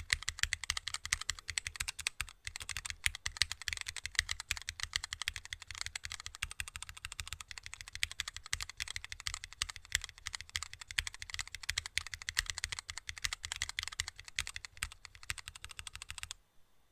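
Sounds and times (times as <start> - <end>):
fast typing on a keyboard: 0.0 - 16.4.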